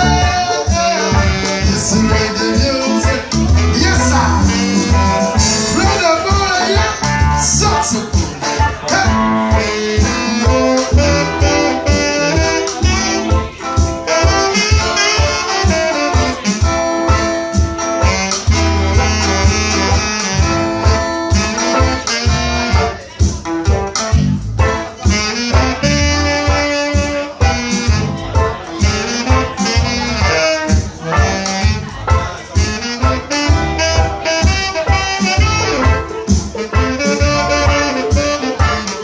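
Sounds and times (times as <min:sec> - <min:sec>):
saxophone lead: 0:00.0 - 0:23.1, 0:23.7 - 0:39.0
reggae band playing: 0:00.0 - 0:39.0.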